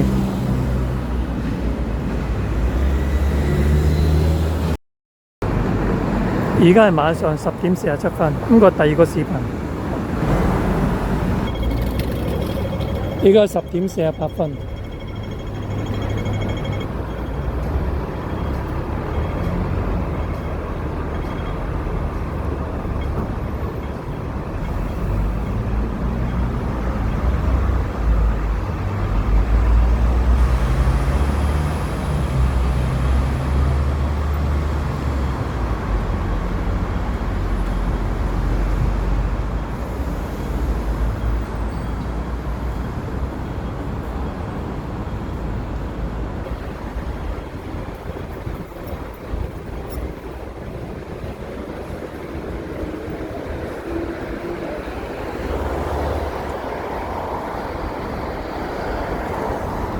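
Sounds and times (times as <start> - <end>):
rumble of passing vehicles: 0.0 - 4.8, 5.4 - 59.9.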